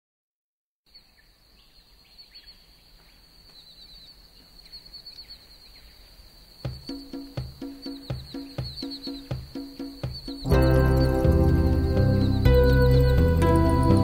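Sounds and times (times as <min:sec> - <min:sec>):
faint bird chirps: 0:00.9 - 0:14.0.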